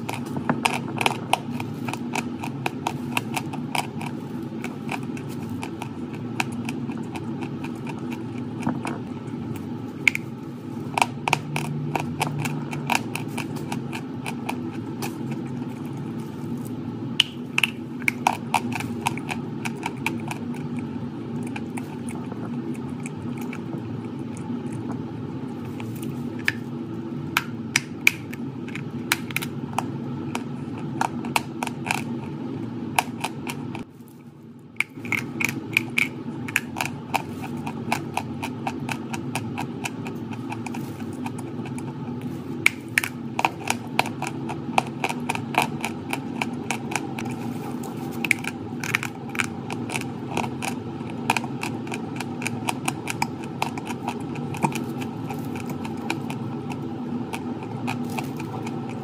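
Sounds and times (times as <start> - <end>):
chalk crunching being chewed: 0.0 - 26.8, 27.4 - 59.0
steady low hum: 0.0 - 59.0.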